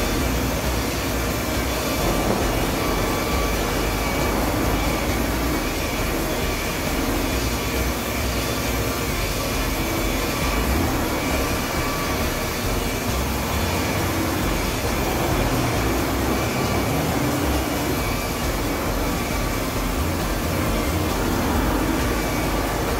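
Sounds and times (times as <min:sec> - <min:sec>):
electric car polisher running: 0:00.0 - 0:22.9.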